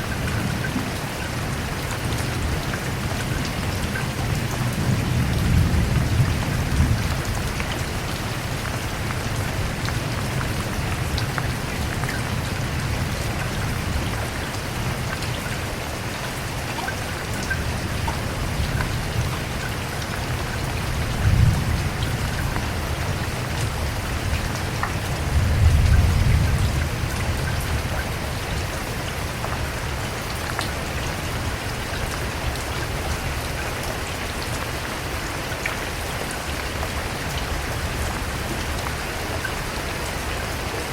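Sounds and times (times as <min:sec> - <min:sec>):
rain pattering on hard surface: 0:00.0 - 0:40.9.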